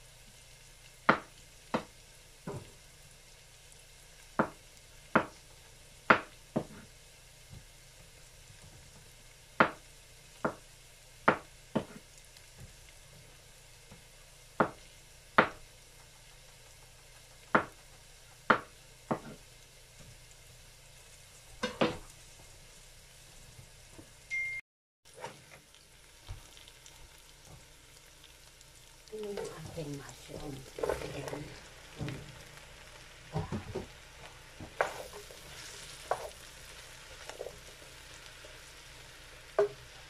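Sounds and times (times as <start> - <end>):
onions sizzling in oil: 0.0 - 40.0.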